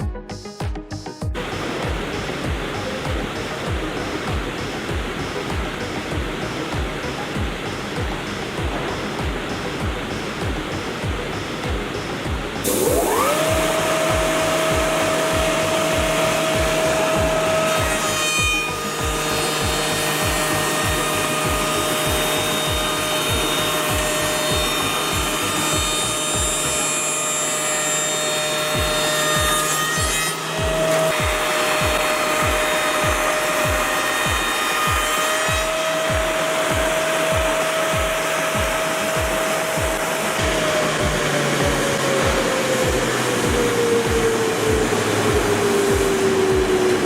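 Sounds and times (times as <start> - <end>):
milling machine cutting wood: 1.4 - 47.0.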